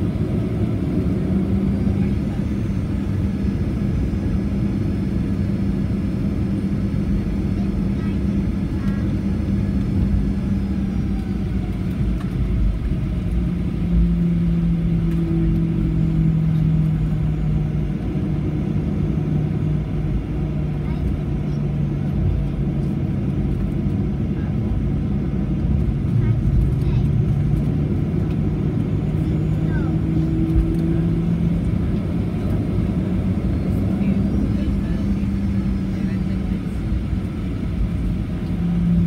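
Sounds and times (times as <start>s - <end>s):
aircraft cabin engine rumble: 0.0s - 39.0s.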